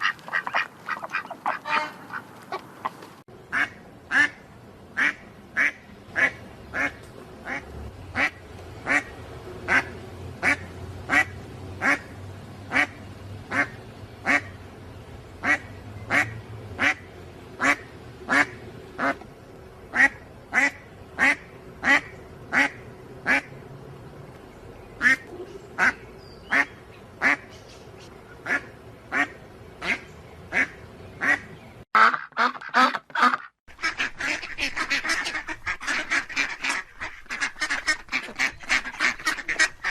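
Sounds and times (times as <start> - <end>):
duck quacking: 0.0 - 4.4, 5.0 - 9.1, 9.7 - 12.1, 12.7 - 14.6, 15.4 - 17.0, 17.6 - 19.2, 19.9 - 23.5, 25.0 - 27.5, 28.4 - 39.9.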